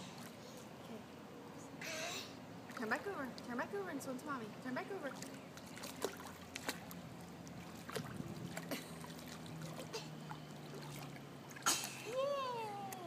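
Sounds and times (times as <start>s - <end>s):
pool water lapping and splashing: 0.0s - 1.2s, 2.4s - 13.0s.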